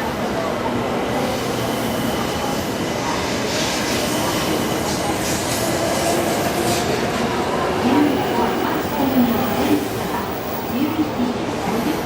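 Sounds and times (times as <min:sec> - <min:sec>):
train running noise: 0:00.0 - 0:12.0
train hiss: 0:01.2 - 0:12.0.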